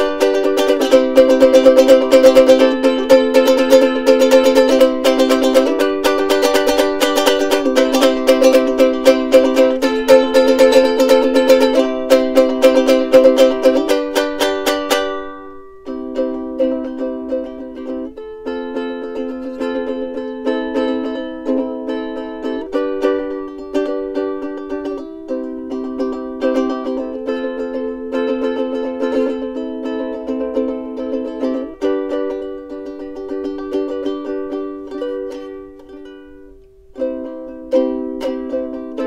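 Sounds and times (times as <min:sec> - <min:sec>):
ukulele playing plucked tune: 0:00.0 - 0:39.0.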